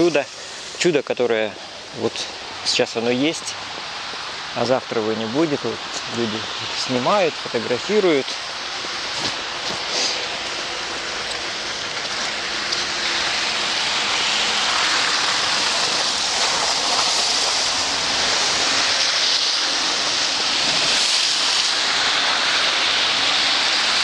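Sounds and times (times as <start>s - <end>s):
rushing hiss of wet street: 0.0s - 24.0s.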